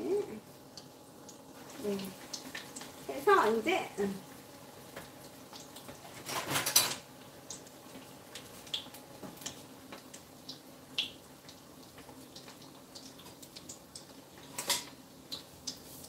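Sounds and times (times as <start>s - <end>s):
food frying in hot oil: 0.0s - 16.0s.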